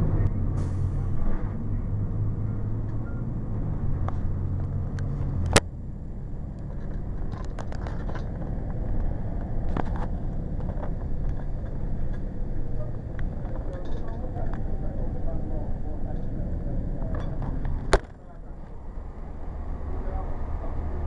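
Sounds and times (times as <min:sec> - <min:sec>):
diesel bus engine running: 0:00.0 - 0:21.0.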